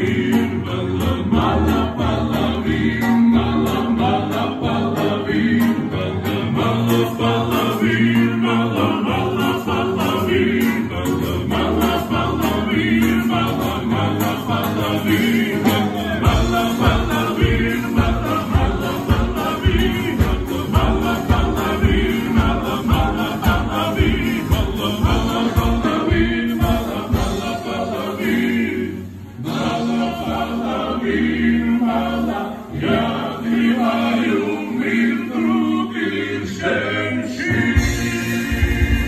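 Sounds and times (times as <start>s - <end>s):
steady drum beat: 0.0s - 35.8s, 37.4s - 39.0s
acoustic guitar: 0.0s - 39.0s
men singing together: 0.0s - 39.0s.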